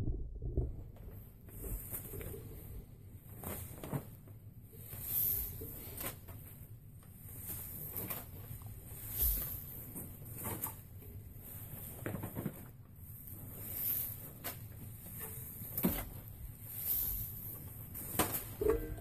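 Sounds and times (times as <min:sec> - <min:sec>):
strands rustling and swishing: 0:01.6 - 0:19.0.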